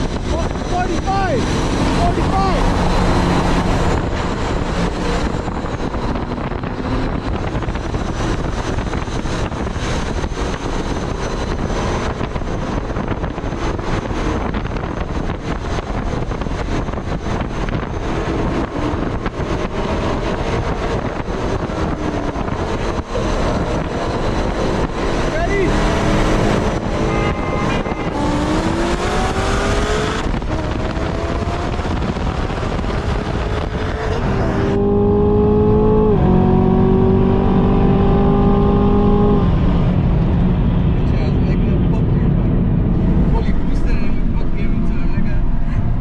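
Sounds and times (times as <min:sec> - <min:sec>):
car engine drone: 0:00.0 - 0:46.0
road noise: 0:00.0 - 0:46.0
wind buffeting microphone: 0:00.0 - 0:46.0
wind rush: 0:00.0 - 0:46.0.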